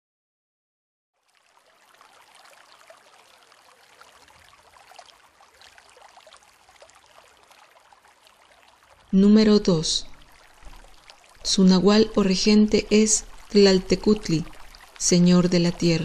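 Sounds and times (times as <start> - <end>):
faint water hiss: 1.2 - 16.0.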